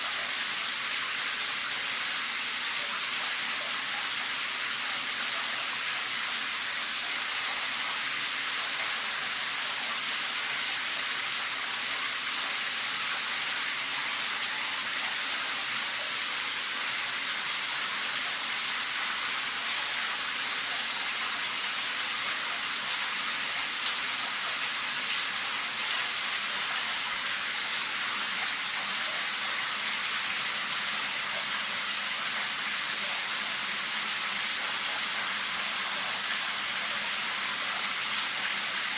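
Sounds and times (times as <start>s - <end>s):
shower water spraying: 0.0s - 38.9s.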